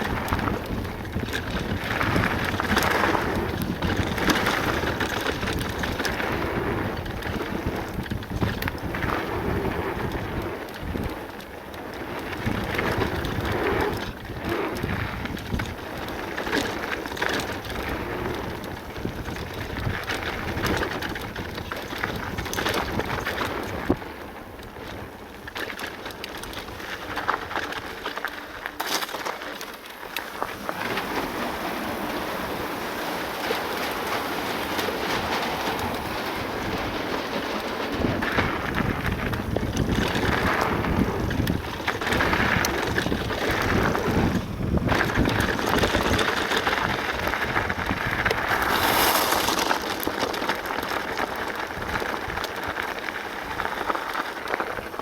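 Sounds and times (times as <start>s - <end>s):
wind buffeting microphone: 0.0s - 28.7s, 29.9s - 55.0s
bike parts rattling and clicking: 0.0s - 32.2s, 33.0s - 55.0s
bike tyres on gravel: 0.0s - 55.0s.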